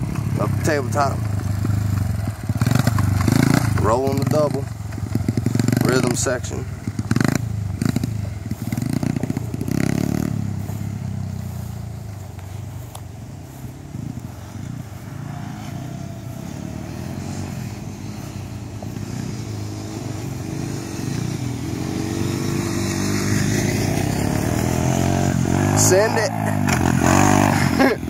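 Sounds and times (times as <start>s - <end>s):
dirt bike and atv engines revving: 0.0s - 28.0s.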